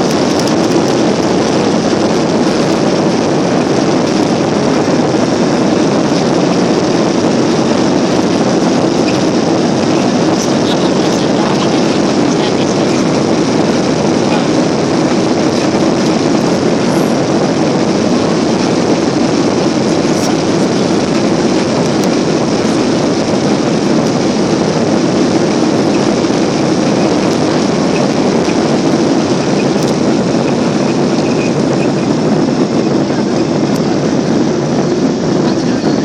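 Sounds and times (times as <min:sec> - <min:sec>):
jet engine and air rush in cabin: 0:00.0 - 0:36.0.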